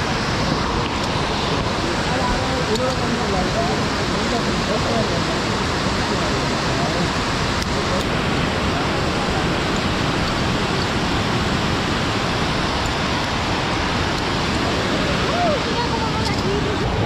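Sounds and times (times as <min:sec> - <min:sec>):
waterfalls rushing: 0:00.0 - 0:17.0.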